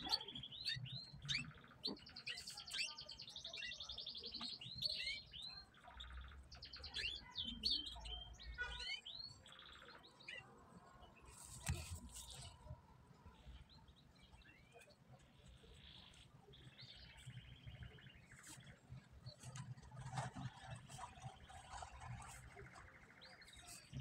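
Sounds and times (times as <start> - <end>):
faint bird chirps and trills: 0.0 - 24.0.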